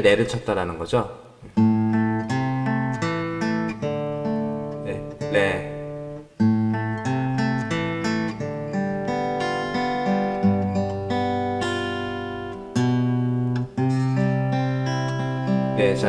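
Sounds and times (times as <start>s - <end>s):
fingerpicked acoustic guitar: 1.4s - 16.0s.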